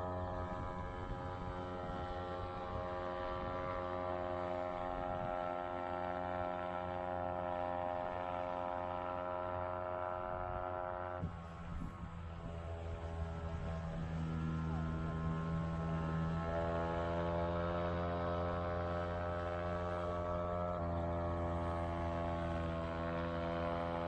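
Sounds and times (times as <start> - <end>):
outboard motor droning: 0.0 - 24.0.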